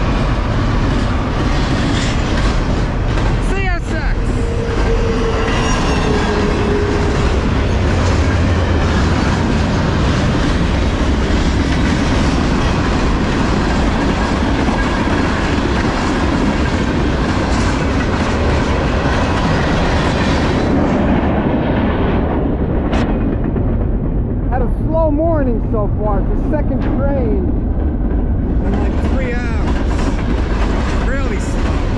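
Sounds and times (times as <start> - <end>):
freight train wheels clattering: 0.0 - 31.9.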